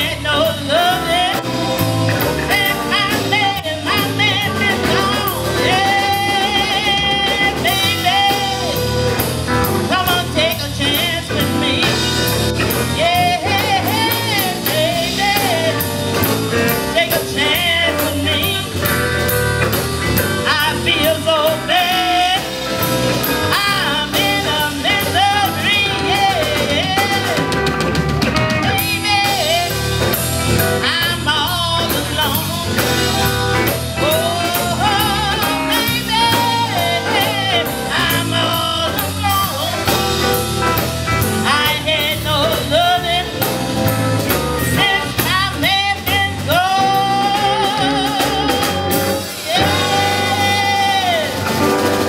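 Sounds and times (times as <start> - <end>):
woman singing into a microphone: 0.0 - 9.2, 9.8 - 16.0, 16.7 - 19.0, 20.4 - 22.7, 23.4 - 27.6, 28.7 - 30.0, 30.8 - 33.4, 34.0 - 40.0, 41.4 - 43.6, 44.7 - 51.8
drums: 0.0 - 52.0
electric bass: 0.0 - 52.0.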